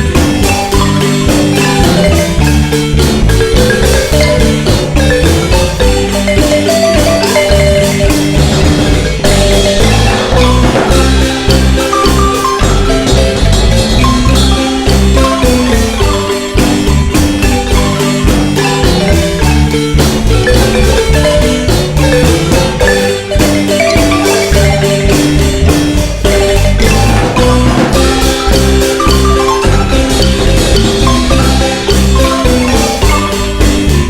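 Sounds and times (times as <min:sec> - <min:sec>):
marimba band playing dance tune: 0:00.0 - 0:34.0.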